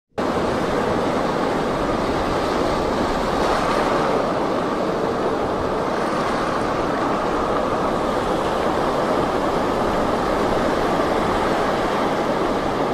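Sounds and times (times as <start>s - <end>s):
wind: 0.1s - 12.9s
waves breaking: 0.2s - 12.9s.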